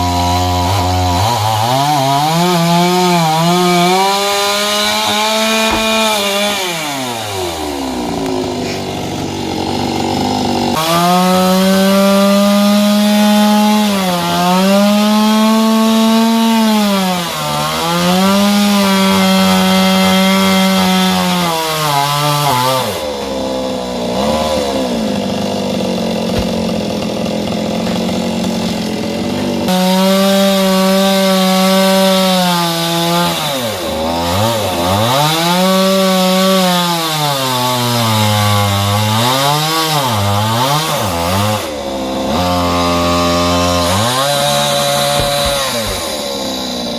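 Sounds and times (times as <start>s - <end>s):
chainsaw cutting: 0.0s - 46.9s.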